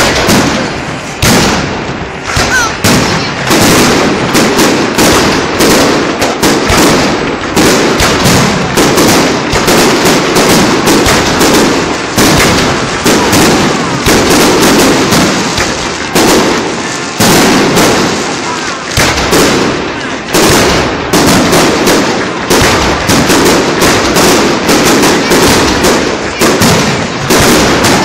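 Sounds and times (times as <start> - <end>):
firework crackling: 0.0 - 28.0.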